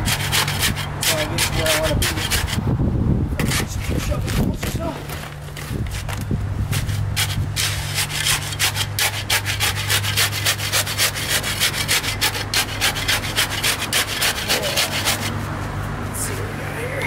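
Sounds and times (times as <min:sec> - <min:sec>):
shovel jabbing wet concrete: 0:00.0 - 0:02.6, 0:03.4 - 0:15.3.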